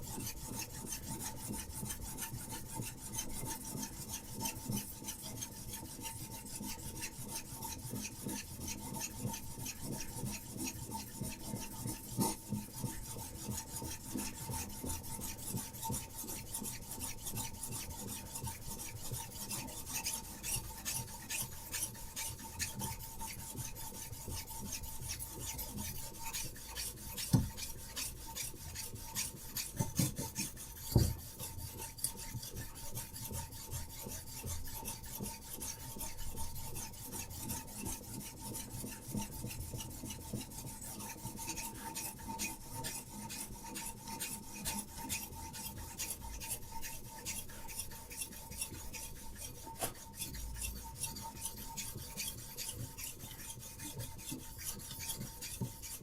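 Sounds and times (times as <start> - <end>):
stone rasping on knife edge: 0.0 - 56.0.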